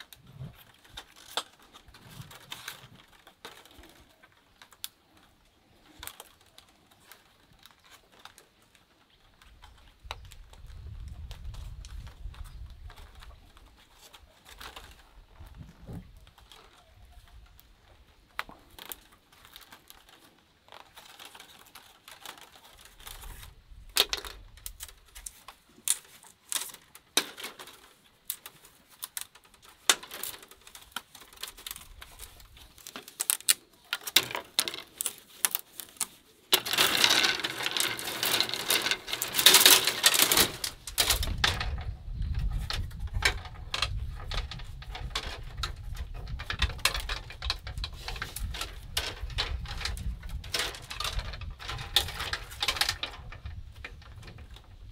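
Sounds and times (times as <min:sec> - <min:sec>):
bamboo strips clicking and rustling: 0:00.0 - 0:54.9.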